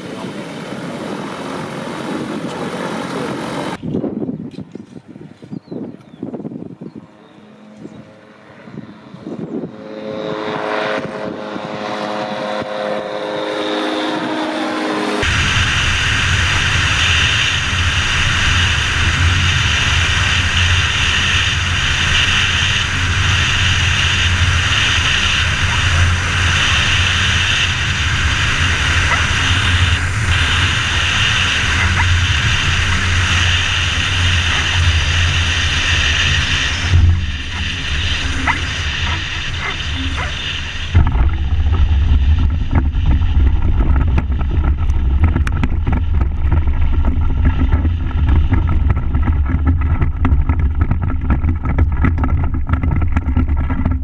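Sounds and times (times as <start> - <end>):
aircraft engine and propeller: 0.0 - 54.0
heavy low rumble: 0.0 - 54.0
wind buffeting microphone: 0.0 - 54.0.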